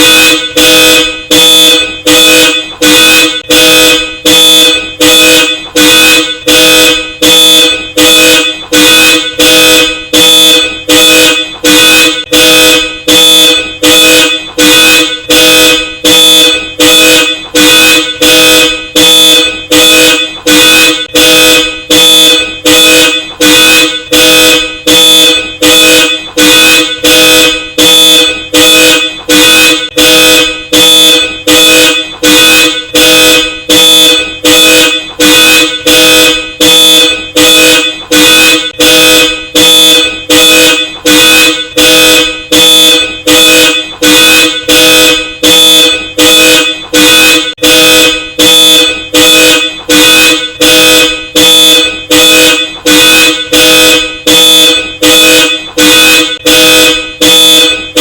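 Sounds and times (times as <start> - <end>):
car alarm horn honking: 0.0 - 58.0.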